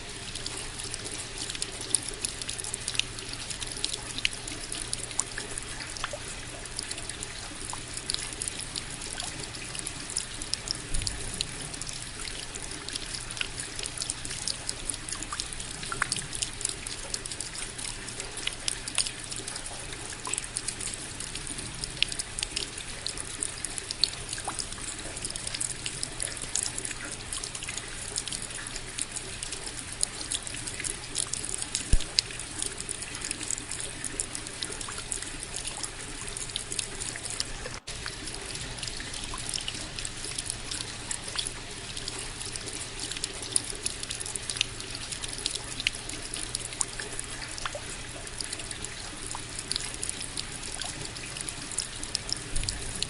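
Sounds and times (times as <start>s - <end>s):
rain drops ticking: 0.0s - 53.0s
steady rain: 0.0s - 53.0s.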